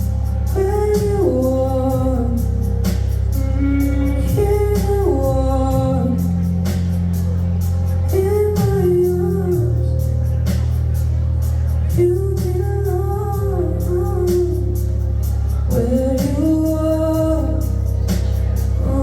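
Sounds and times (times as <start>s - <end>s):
deep bass line: 0.0s - 19.0s
person singing: 0.0s - 19.0s
steady drum beat: 0.0s - 19.0s.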